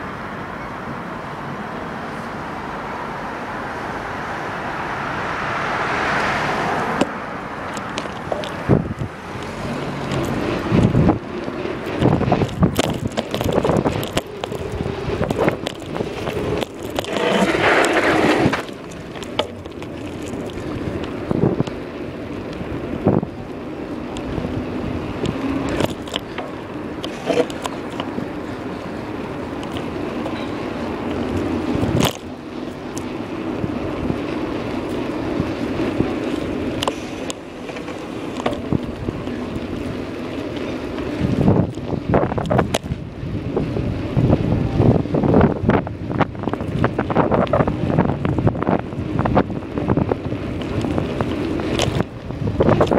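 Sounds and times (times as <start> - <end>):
rolling rush of bicycle: 0.0 - 52.9
wind buffeting microphone: 4.1 - 52.9.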